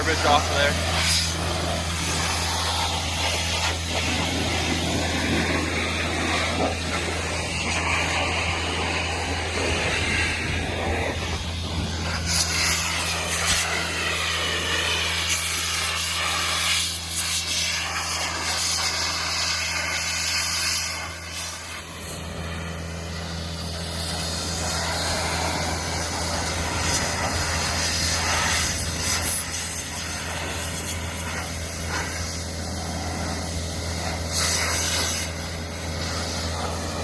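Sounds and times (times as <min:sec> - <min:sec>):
compressed air blow gun hissing: 0:00.0 - 0:37.0
engine hum: 0:00.0 - 0:37.0.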